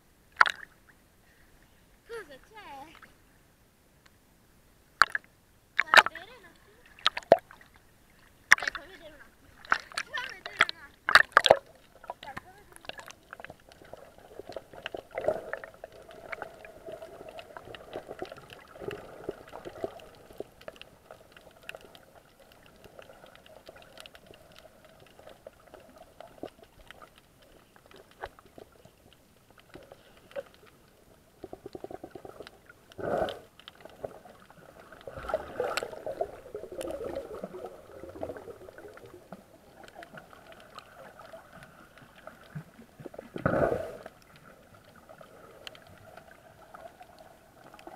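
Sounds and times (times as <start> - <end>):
water swishes: 0.2 - 3.4, 5.0 - 47.9
faint crackling: 5.0 - 47.9
muffled underwater water movement: 5.0 - 47.9.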